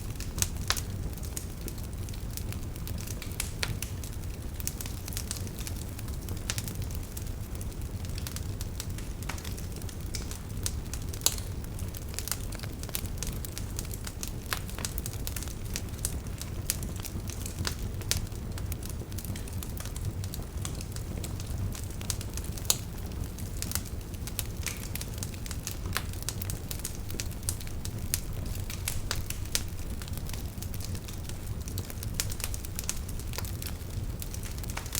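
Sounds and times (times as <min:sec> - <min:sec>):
fire crackling and popping: 0:00.0 - 0:34.9.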